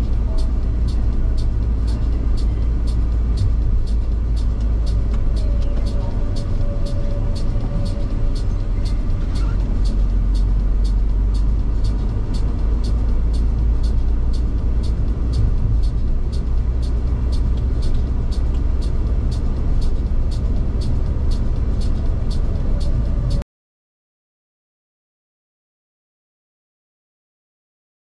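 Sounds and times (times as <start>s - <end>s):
car engine and road rumble: 0.0s - 23.4s
regular high ticking: 0.0s - 23.4s.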